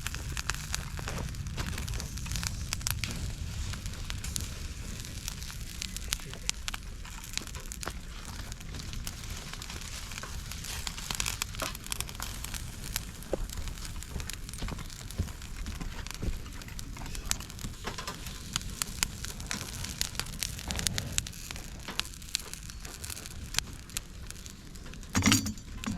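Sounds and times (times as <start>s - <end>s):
campfire crackling and popping: 0.0s - 25.9s
steady fire hiss: 0.0s - 25.9s.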